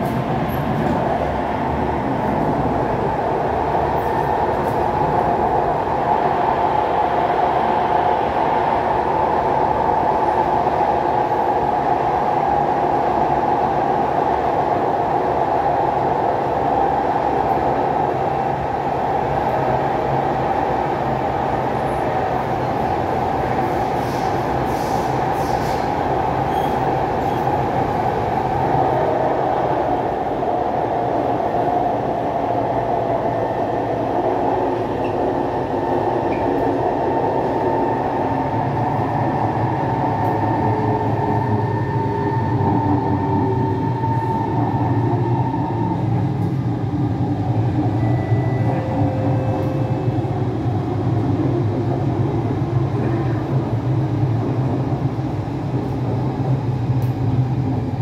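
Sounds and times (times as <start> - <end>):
train rumble and rail noise: 0.0 - 58.0.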